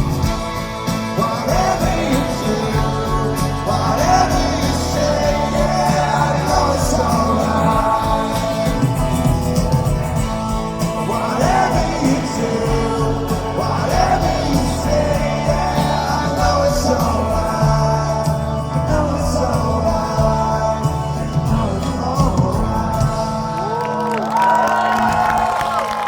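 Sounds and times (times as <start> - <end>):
person singing: 0.0 - 25.9
rock band playing live: 0.0 - 26.0.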